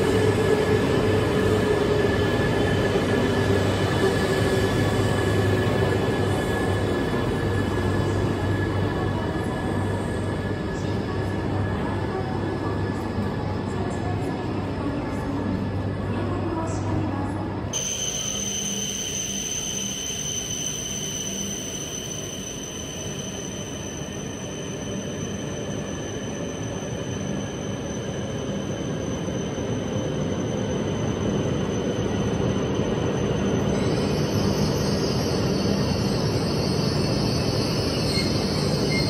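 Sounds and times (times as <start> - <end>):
bullet train high-pitched whine: 0.0 - 39.0.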